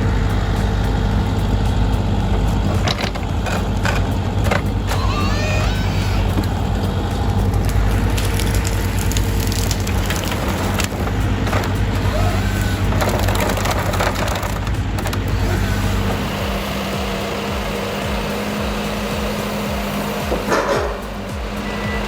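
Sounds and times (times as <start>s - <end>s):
diesel engine running: 0.0s - 22.0s
wood cracking and splintering: 0.3s - 20.2s.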